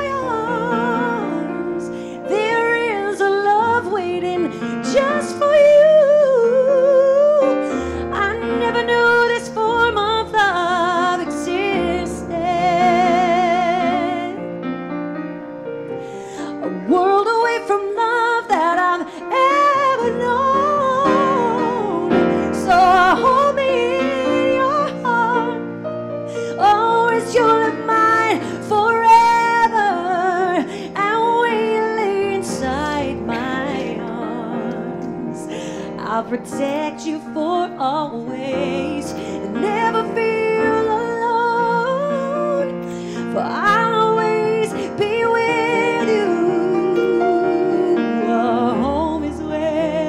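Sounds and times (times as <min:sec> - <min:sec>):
woman singing a slow ballad: 0:00.0 - 0:14.5, 0:16.1 - 0:50.0
instrumental accompaniment: 0:00.0 - 0:50.0.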